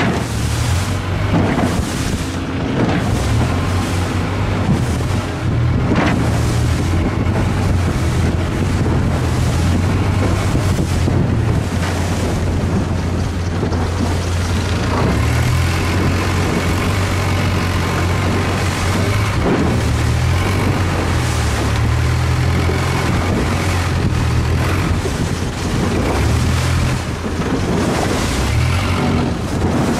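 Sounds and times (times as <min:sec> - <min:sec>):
boat engine droning: 0:00.0 - 0:29.9
rush of wind and water: 0:00.0 - 0:29.9.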